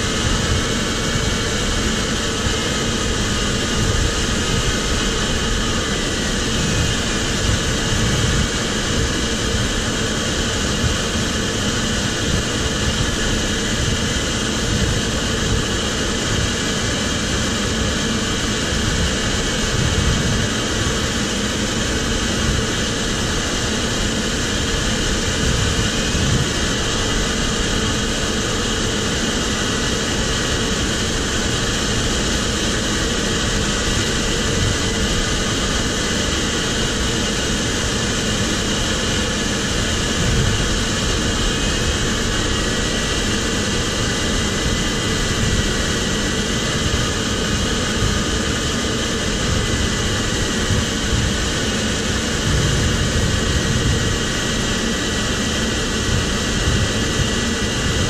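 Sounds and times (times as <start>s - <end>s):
air rushing over glider canopy: 0.0s - 58.0s.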